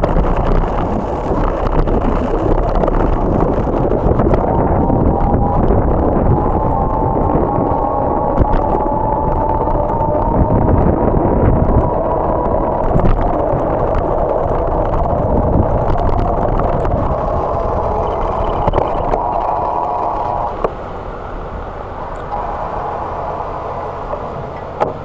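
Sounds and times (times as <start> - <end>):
bicycle rumbling on asphalt: 0.0 - 25.0.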